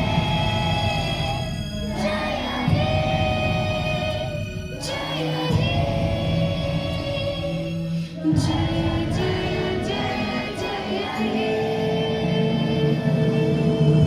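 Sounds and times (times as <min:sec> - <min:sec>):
choir singing with accompaniment: 0:00.0 - 0:14.0.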